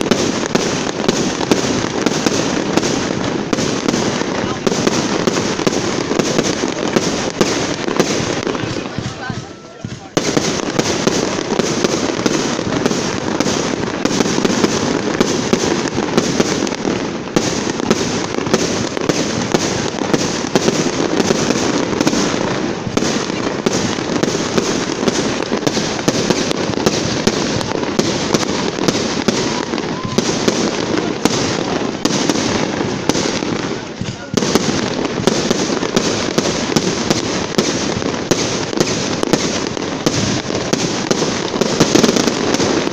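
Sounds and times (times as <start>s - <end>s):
fireworks banging and crackling: 0.0s - 42.9s.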